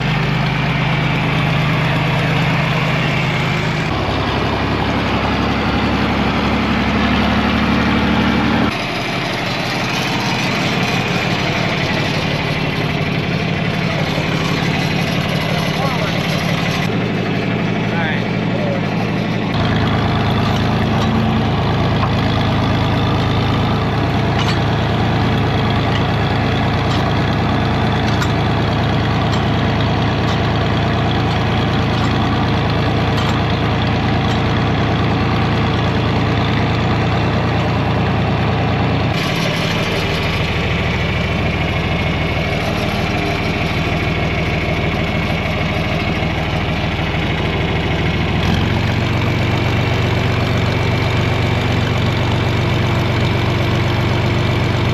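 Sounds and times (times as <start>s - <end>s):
tractor engine idling: 0.0s - 54.9s.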